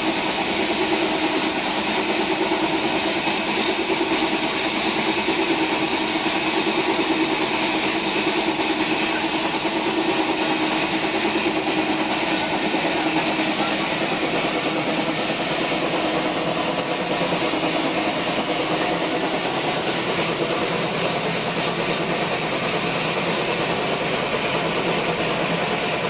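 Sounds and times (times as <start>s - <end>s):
band sawmill humming: 0.0s - 26.0s.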